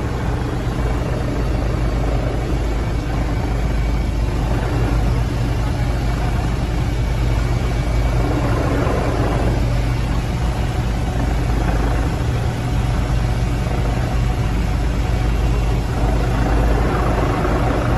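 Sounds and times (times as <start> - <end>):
helicopter engine and rotor drone: 0.0 - 17.9.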